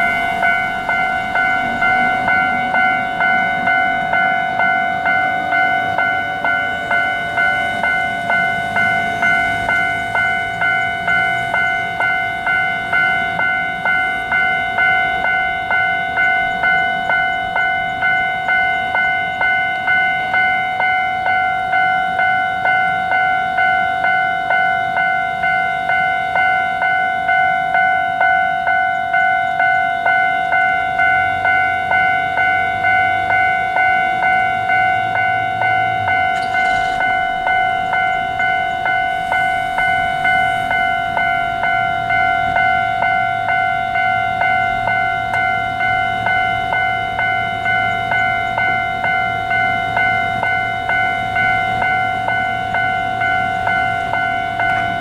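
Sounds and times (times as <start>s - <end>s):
level crossing warning alarm: 0.0s - 55.0s.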